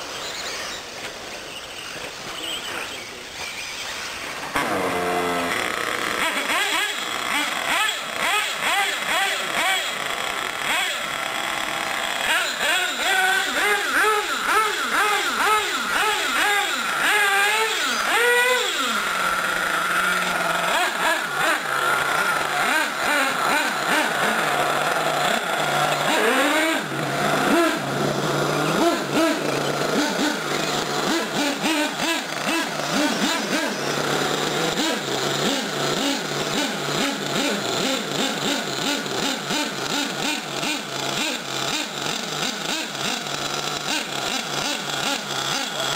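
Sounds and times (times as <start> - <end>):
radio-controlled car motors revving: 0.0 - 45.9.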